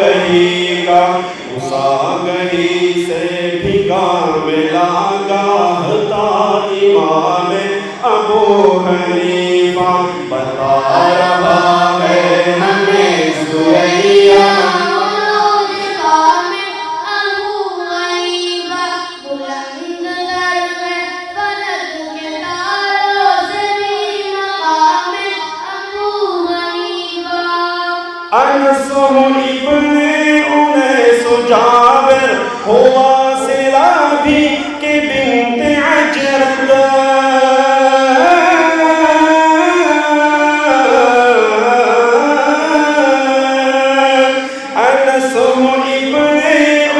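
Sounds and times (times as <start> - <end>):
person chanting devotional song: 0.0 - 46.9.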